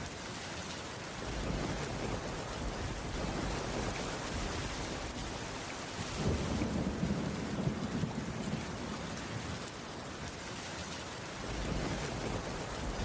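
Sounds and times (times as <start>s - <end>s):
rain on a wooden roof: 0.0s - 13.0s.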